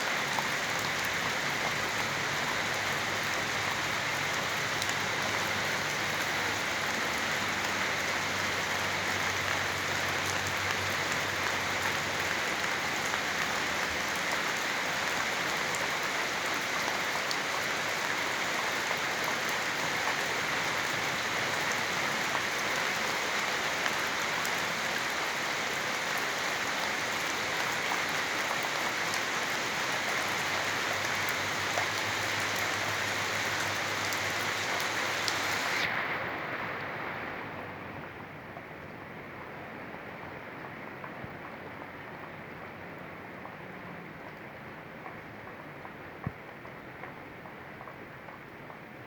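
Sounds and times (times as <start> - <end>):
steady rainfall: 0.0 - 49.0.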